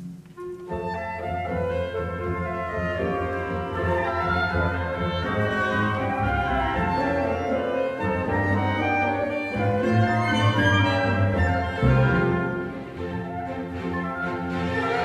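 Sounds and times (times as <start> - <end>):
woodwinds: 0.0 - 15.0
brass: 1.6 - 15.0
strings sustained notes: 1.6 - 15.0.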